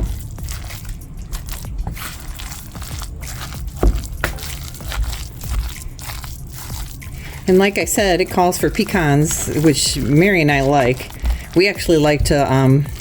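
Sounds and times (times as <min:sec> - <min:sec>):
wet squishing of stirred salad: 0:00.0 - 0:13.0.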